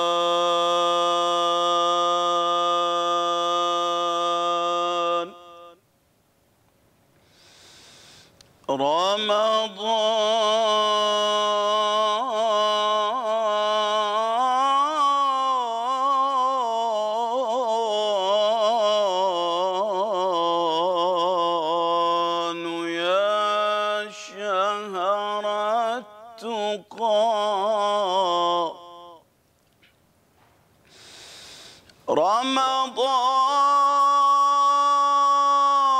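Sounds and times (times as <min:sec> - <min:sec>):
man singing unaccompanied: 0:00.0 - 0:05.8, 0:08.6 - 0:29.3, 0:32.0 - 0:35.9.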